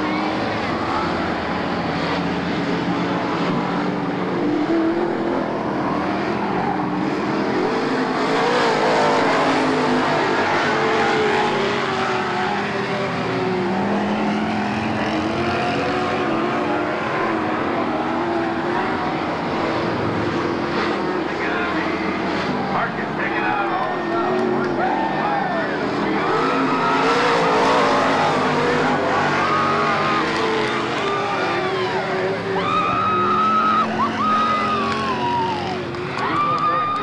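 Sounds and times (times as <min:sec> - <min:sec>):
stock car engines racing: 0:00.0 - 0:37.0.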